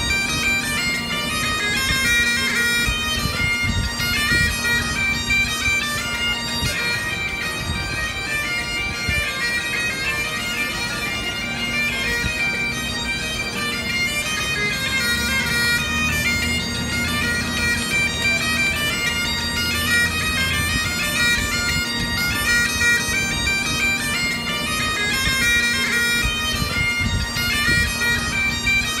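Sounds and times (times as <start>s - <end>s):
bagpipe music: 0.0s - 29.0s.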